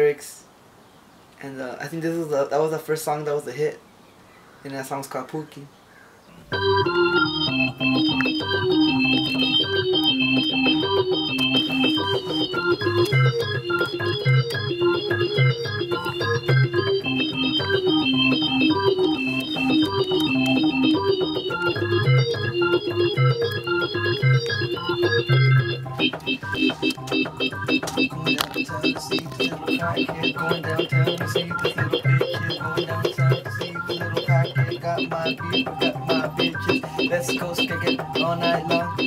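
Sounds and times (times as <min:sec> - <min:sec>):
keytar bass line and chords: 0:06.5 - 0:39.0.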